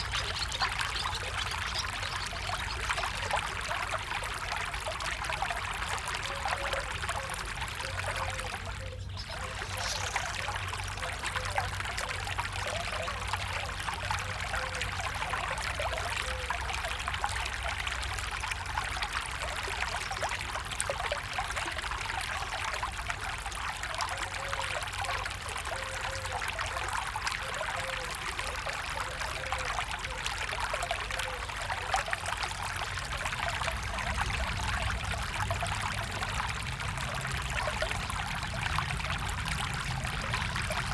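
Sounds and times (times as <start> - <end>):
stream water running and splashing: 0.0 - 40.9.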